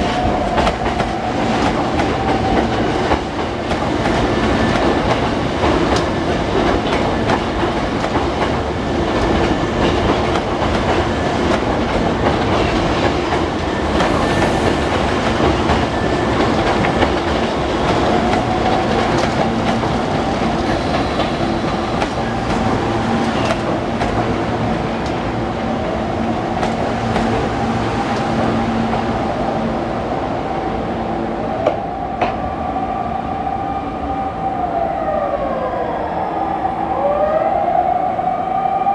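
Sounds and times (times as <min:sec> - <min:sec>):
electric train whine: 0:00.0 - 0:38.9.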